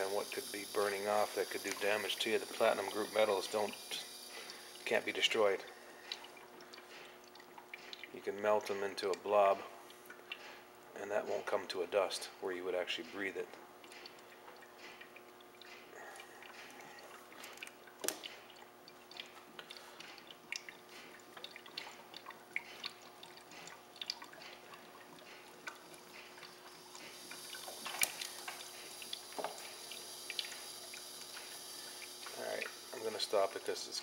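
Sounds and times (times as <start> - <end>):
drip-like clicks and ticks: 0.0 - 11.8, 13.0 - 33.8
steady low hiss of bubbling gas: 0.0 - 34.0.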